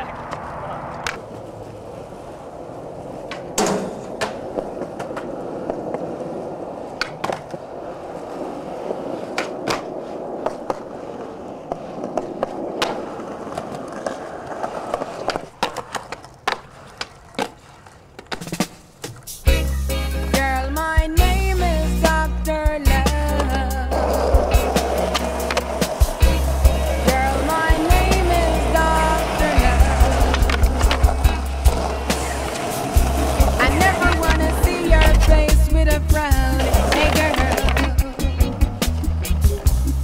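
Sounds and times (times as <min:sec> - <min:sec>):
skateboard wheels rolling on pavement: 0:00.0 - 0:40.0
skateboard popping and landing clacks: 0:00.2 - 0:01.4, 0:02.9 - 0:19.4, 0:22.9 - 0:39.8.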